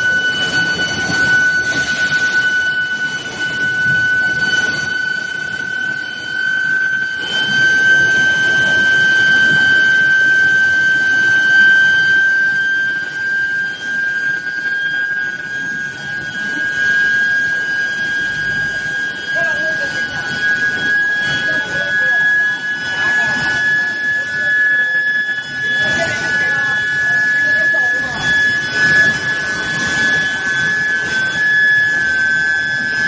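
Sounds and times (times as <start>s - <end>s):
induction furnace high-pitched whine: 0.0s - 33.0s
production line rumbling: 0.0s - 33.0s.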